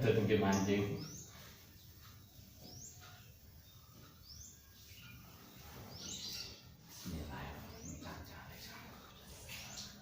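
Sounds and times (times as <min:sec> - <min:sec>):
small bird chirping faintly: 0:00.0 - 0:10.0.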